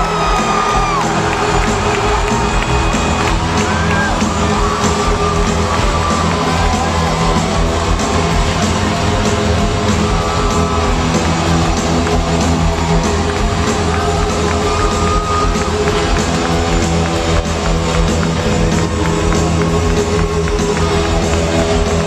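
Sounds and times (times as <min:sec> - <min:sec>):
crowd yelling: 0:00.0 - 0:22.0
loud live rock music: 0:00.0 - 0:22.0.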